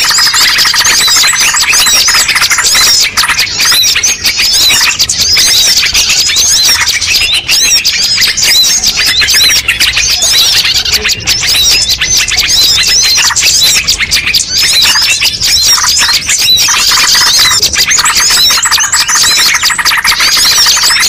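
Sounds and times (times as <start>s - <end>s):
chorus of small birds chirping: 0.0s - 21.0s.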